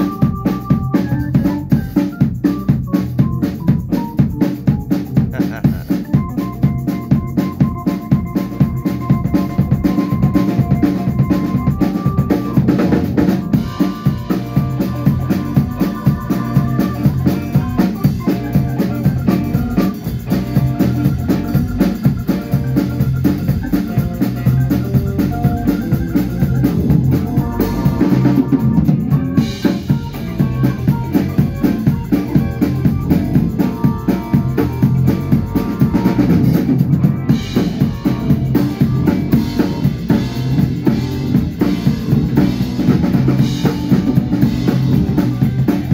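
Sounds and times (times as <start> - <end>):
band music: 0.0 - 45.9
drum kit beat: 0.0 - 45.9.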